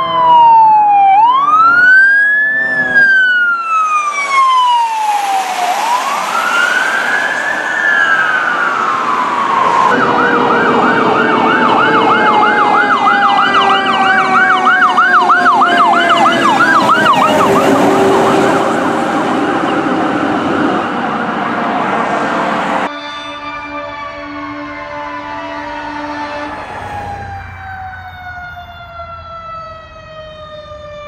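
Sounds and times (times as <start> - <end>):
fire truck siren: 0.0 - 31.0.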